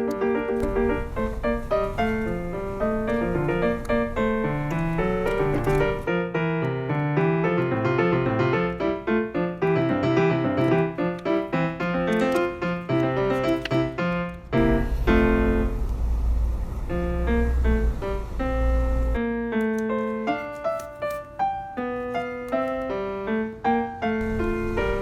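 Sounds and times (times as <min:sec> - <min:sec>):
piano music: 0:00.0 - 0:16.0, 0:16.8 - 0:25.0.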